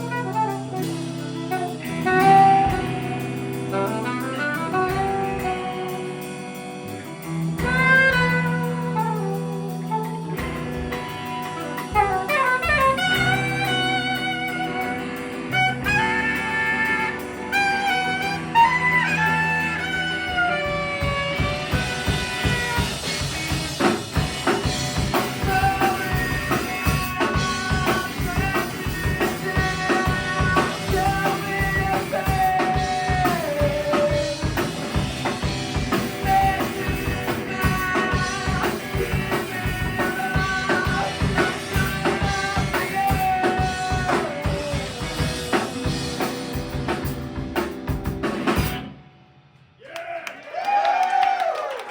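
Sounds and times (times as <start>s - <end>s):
drum kit beat: 0.0s - 48.9s
live band playing punk song: 0.0s - 49.0s.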